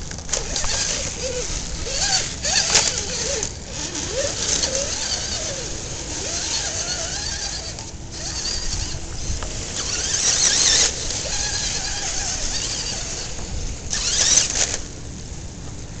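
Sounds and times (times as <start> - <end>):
rc car motor and gears whining: 0.0 - 15.5.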